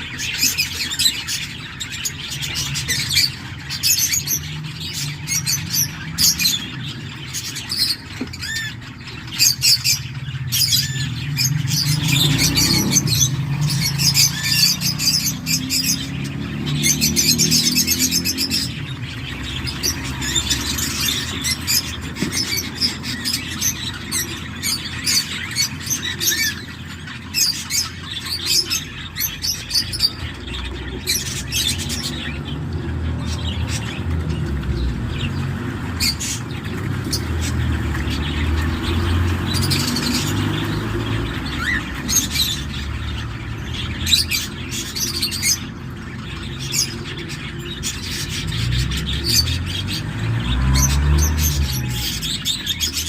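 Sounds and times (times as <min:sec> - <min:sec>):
bird chicks chirping and squeaking: 0:00.0 - 0:53.0.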